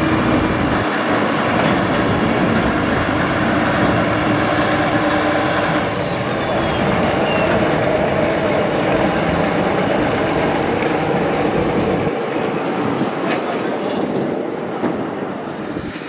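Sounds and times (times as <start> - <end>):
train rumbling and rattling past: 0.0 - 16.0.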